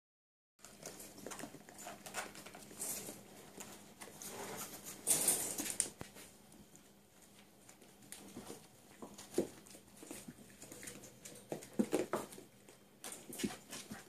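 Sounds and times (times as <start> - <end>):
puppy paws pattering on tiles: 0.6 - 14.0
rustling: 0.6 - 14.0.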